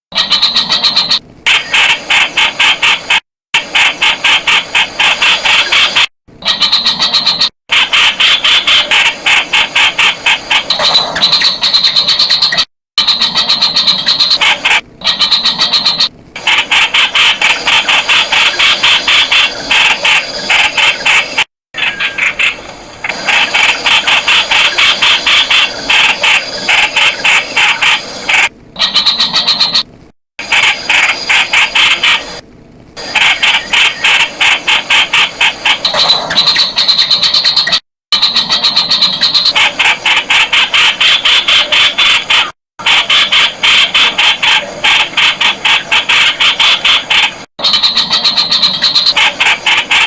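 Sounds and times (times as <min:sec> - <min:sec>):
bird calling harsh rapid notes: 0:00.1 - 0:29.9, 0:33.0 - 0:50.0.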